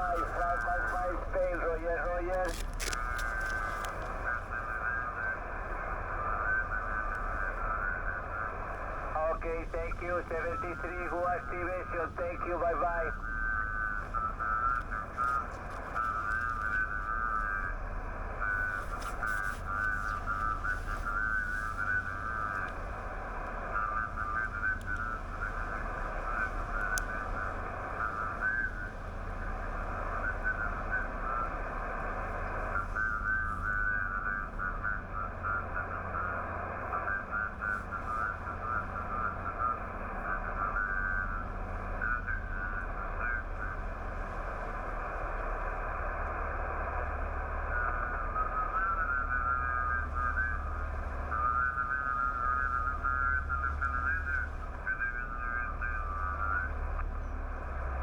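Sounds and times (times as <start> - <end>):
radio band hiss: 0.0 - 58.0.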